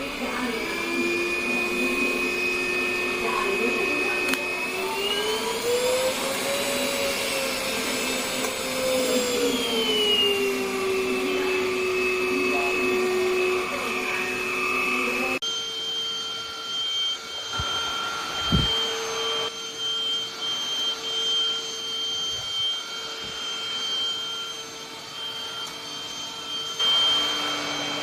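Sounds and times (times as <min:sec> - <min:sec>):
vacuum cleaner motor whine: 0:00.0 - 0:28.0.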